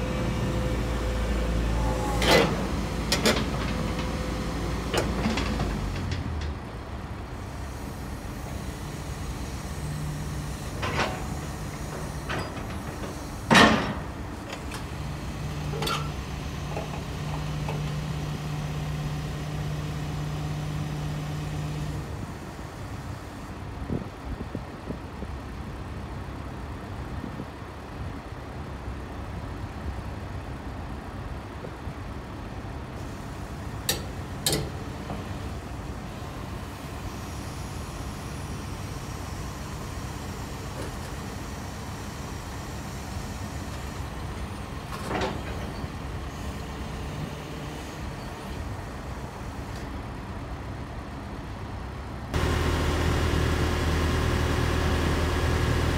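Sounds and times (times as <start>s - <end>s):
excavator diesel engine working: 0.0s - 55.9s.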